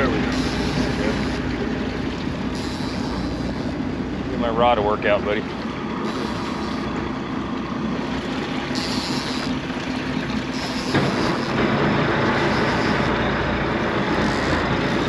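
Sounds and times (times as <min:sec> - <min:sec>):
boat engine running: 0:00.0 - 0:15.0
water noise: 0:00.0 - 0:15.0
wind: 0:00.0 - 0:15.0.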